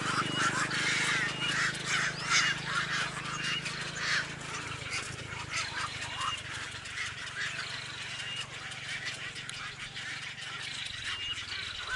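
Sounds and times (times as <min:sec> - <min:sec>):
birds calling harshly: 0:00.0 - 0:11.9
low steady drone: 0:00.0 - 0:11.9.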